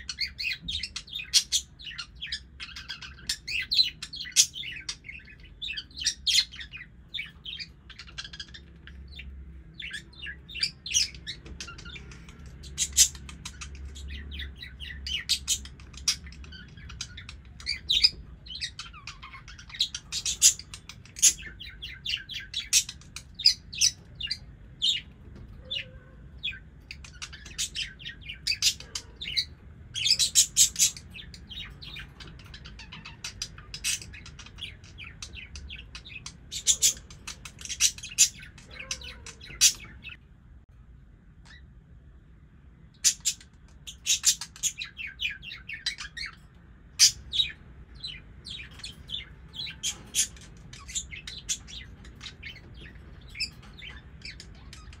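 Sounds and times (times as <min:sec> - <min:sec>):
budgerigars chirping and warbling: 0:00.0 - 0:40.3, 0:41.4 - 0:41.8, 0:42.8 - 0:55.0.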